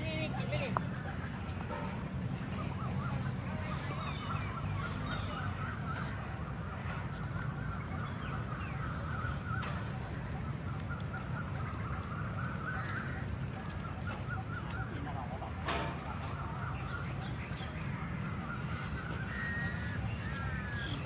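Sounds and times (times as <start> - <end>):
birds chattering: 0.0 - 21.0.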